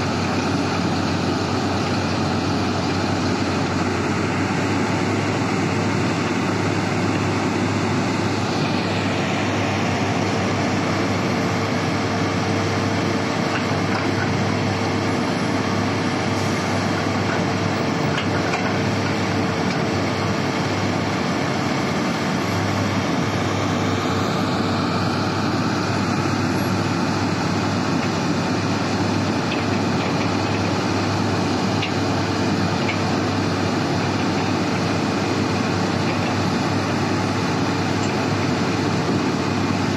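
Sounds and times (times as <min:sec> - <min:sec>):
heavy diesel engines droning: 0:00.0 - 0:39.9.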